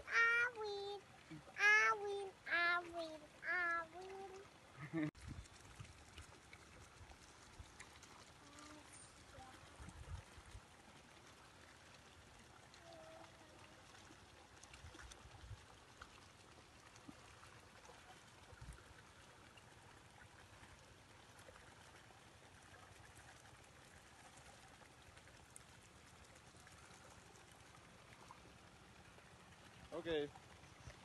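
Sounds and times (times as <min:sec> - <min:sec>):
faint outdoor hiss: 0:00.0 - 0:15.4, 0:16.4 - 0:31.0.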